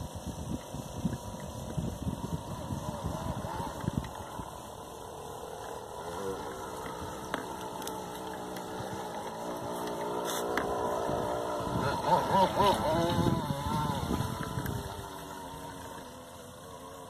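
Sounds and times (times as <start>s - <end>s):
low rumbling: 0.0s - 17.0s
model boat motor whine: 0.0s - 17.0s.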